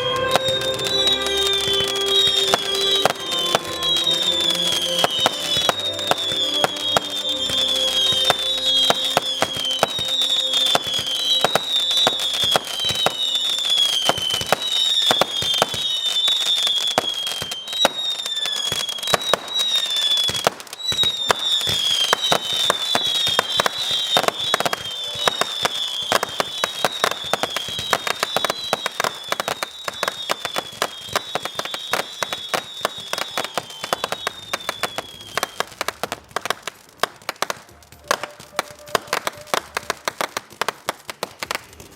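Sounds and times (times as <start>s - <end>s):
fireworks crackling and banging: 0.0s - 41.9s
whistling fireworks: 0.0s - 41.9s.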